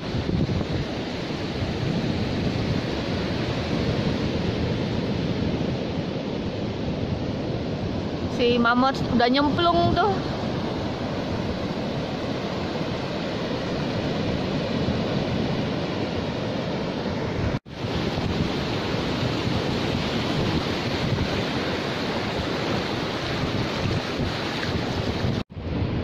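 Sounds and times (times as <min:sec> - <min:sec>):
ocean surf breaking on beach: 0:00.0 - 0:26.0
wind buffeting microphone: 0:00.0 - 0:26.0.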